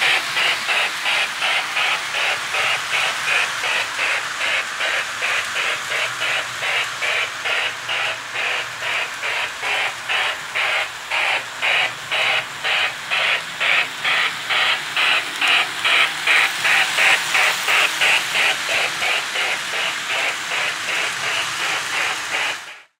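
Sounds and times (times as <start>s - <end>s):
electronic steam locomotive chuffing: 0.0s - 22.9s.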